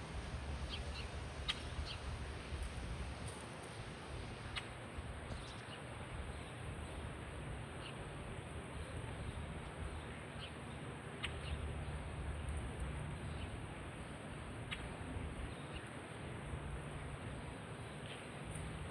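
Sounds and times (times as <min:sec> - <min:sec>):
steady background hiss and rumble: 0:00.0 - 0:18.9.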